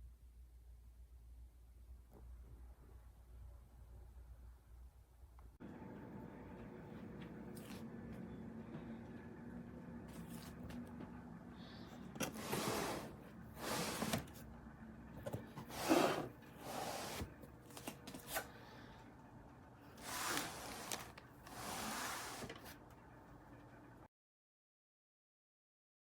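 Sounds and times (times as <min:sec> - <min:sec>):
faint steady hum: 0:00.0 - 0:24.1.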